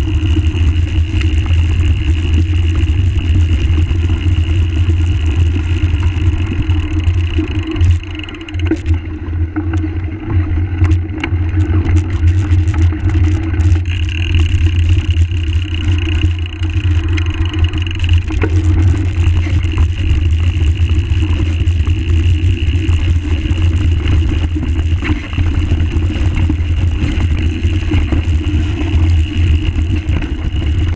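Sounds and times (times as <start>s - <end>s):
bike tyre rolling on gravel: 0.0s - 9.0s, 9.6s - 30.9s
wind noise on microphone: 0.0s - 30.9s.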